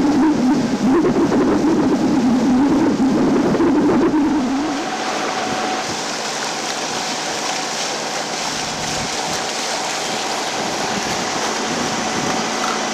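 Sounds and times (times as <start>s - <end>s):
wind and water rushing: 0.0s - 12.9s.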